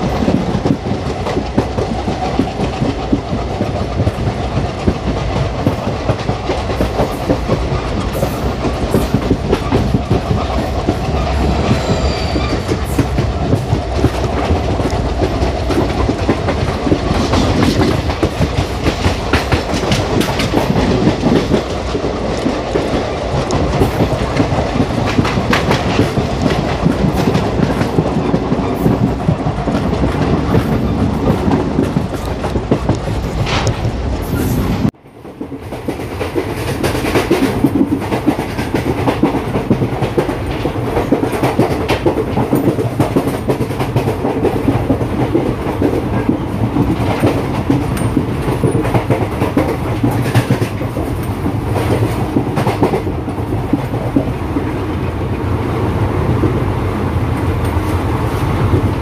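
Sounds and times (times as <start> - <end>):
clickety-clack of rail joints: 0.0 - 59.0
rumble of moving train: 0.0 - 59.0.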